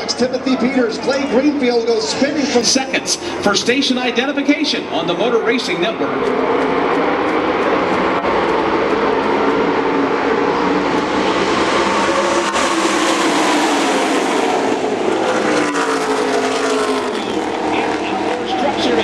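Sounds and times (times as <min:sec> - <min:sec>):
race truck engines: 0:00.0 - 0:19.0.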